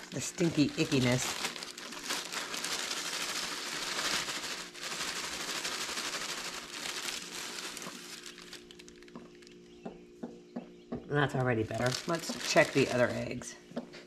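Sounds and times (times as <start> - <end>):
paper and bedding crinkling: 0.0 - 9.6, 11.3 - 13.5.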